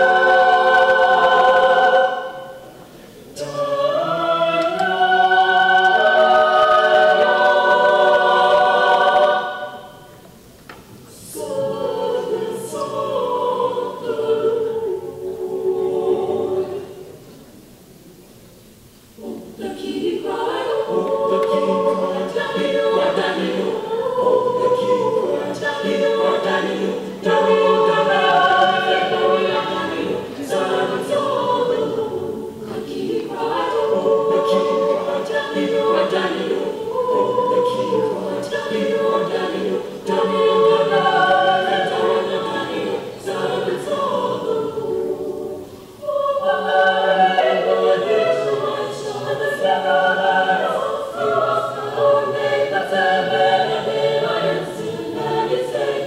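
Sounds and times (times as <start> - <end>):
mixed choir singing: 0.0 - 10.4, 11.0 - 17.4, 19.1 - 56.0.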